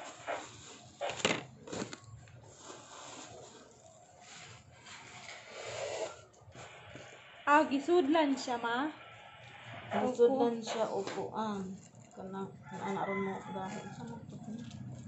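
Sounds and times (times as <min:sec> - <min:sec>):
packaging rustling and scraping: 0:00.0 - 0:07.4, 0:09.4 - 0:15.0.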